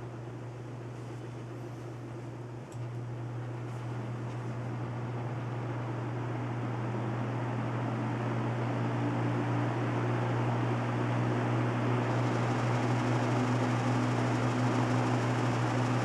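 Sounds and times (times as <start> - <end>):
box fan motor hum: 0.0 - 16.0
fan air rushing: 0.0 - 16.0.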